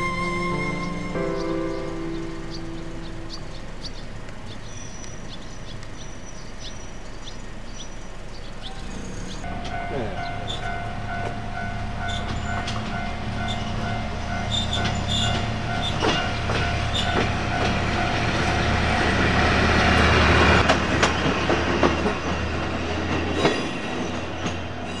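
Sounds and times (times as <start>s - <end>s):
diesel railcar engine droning: 0.0s - 25.0s
wheels clacking over rail joints: 0.8s - 25.0s.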